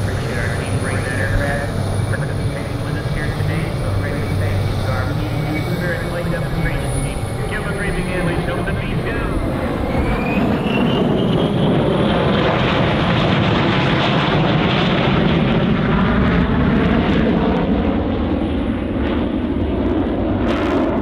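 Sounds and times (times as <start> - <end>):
jet bomber engines passing: 0.0 - 21.0.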